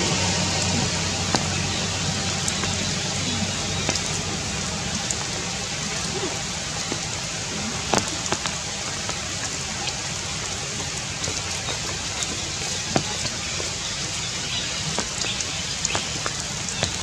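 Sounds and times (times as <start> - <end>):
rain falling on leaves: 0.0 - 17.0.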